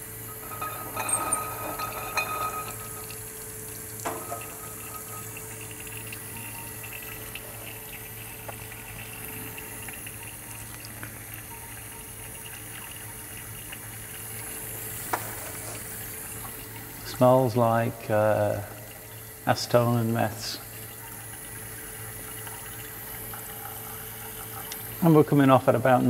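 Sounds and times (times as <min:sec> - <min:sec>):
low steady hum: 0:00.0 - 0:26.0
liquid trickling into glass jar: 0:00.1 - 0:26.0.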